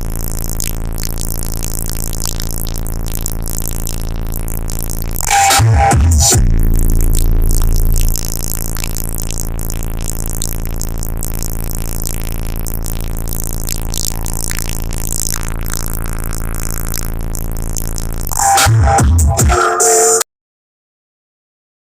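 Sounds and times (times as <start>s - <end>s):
bass-heavy electronic music: 0.0s - 20.2s.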